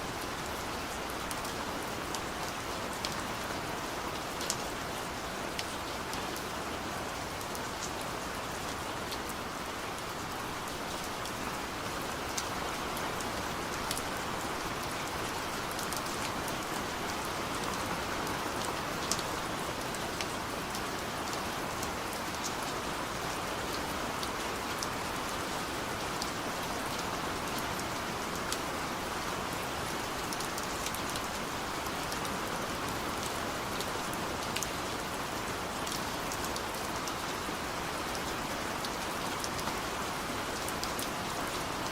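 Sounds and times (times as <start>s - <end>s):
sharp ticks of raindrops: 0.0s - 41.9s.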